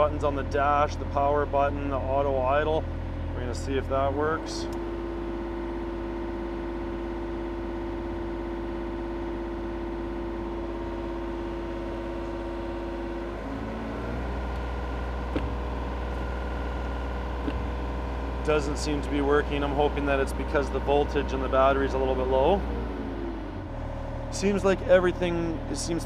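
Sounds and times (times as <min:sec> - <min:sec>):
diesel engine running: 0:00.0 - 0:26.0
steady hum: 0:01.7 - 0:26.0.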